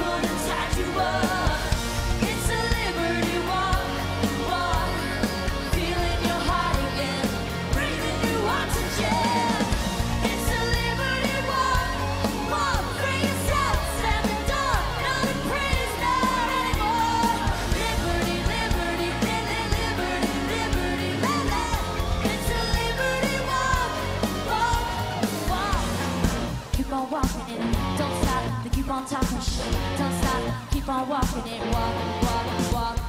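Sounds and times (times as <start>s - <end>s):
rock band playing: 0.0s - 30.8s, 31.5s - 33.0s
woman singing lead: 0.0s - 33.0s.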